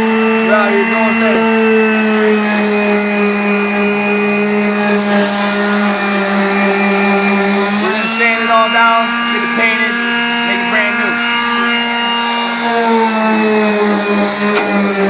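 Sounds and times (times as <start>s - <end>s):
electric sander whining: 0.0s - 15.0s.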